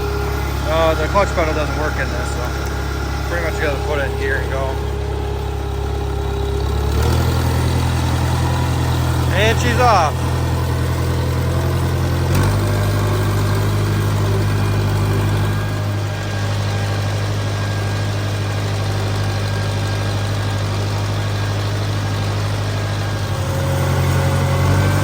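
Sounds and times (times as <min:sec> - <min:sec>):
diesel engine running steadily: 0:00.0 - 0:25.0.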